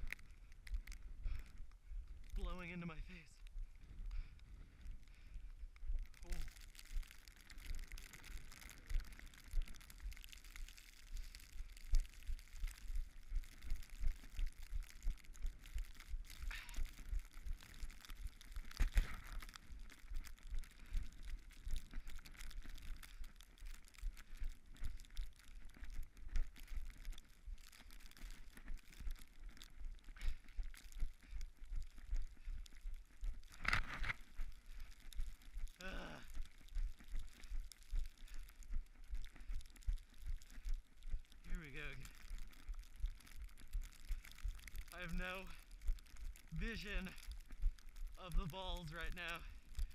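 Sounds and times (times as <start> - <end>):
running footsteps in snow: 0.0 - 49.9.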